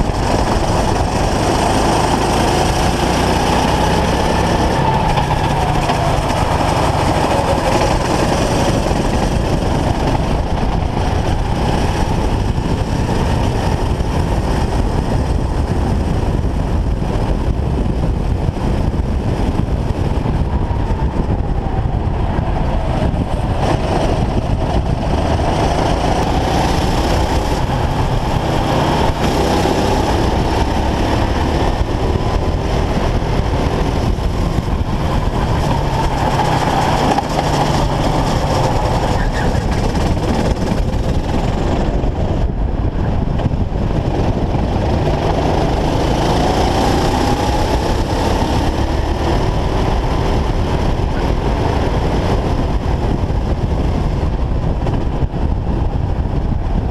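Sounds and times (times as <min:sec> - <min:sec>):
kart engine revving: 0:00.0 - 0:56.5
wind buffeting camera: 0:00.0 - 0:56.9.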